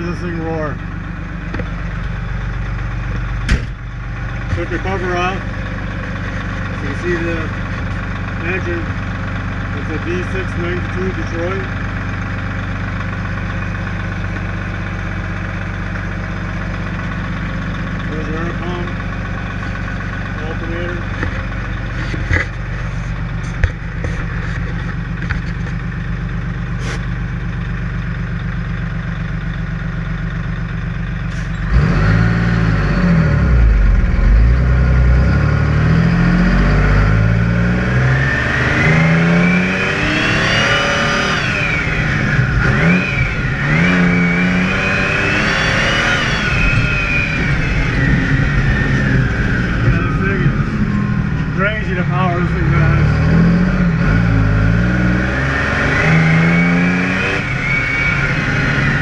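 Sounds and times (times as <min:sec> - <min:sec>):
diesel truck engine revving: 0:00.0 - 0:59.0.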